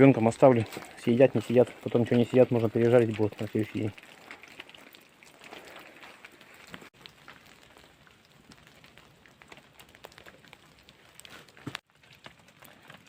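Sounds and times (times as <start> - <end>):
raindrop ticks: 0.0 - 13.0.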